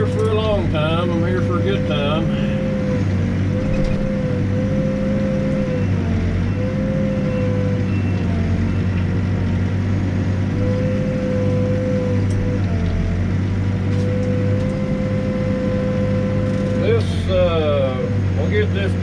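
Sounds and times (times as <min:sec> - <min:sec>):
diesel engine running: 0:00.0 - 0:19.0
engine whine: 0:00.0 - 0:19.0.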